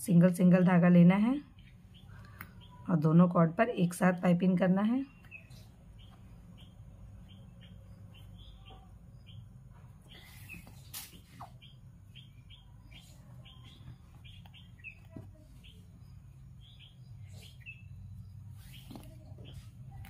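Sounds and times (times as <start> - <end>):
faint small birds chirping: 0.1 - 20.0.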